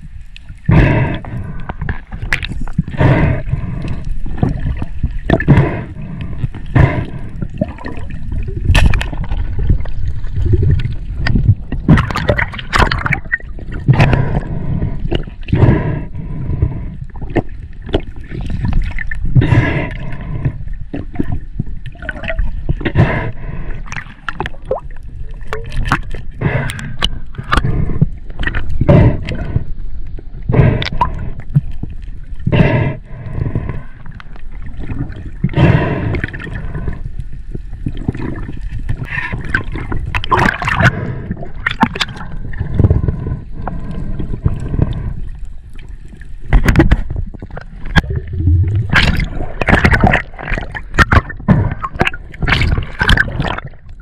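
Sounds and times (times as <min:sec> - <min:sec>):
crackling bubbles: 0:00.0 - 0:54.0
water sloshing and gurgling: 0:00.0 - 0:54.0.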